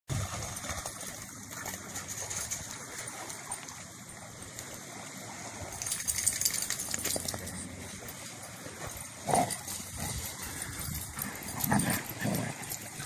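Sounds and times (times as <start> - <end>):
paws splashing in shallow water: 0.1 - 13.0
steady outdoor hiss: 0.1 - 13.0.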